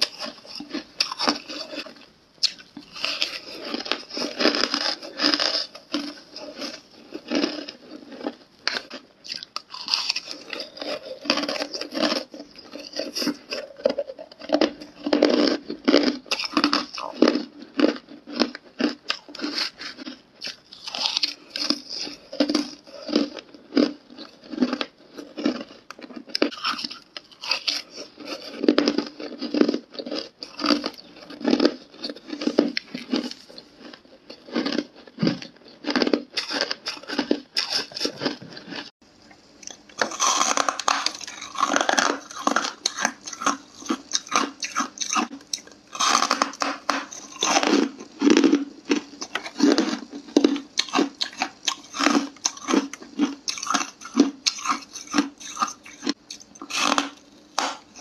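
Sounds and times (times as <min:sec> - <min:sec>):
ice crunching being chewed: 0:00.0 - 0:38.9, 0:39.6 - 0:58.0.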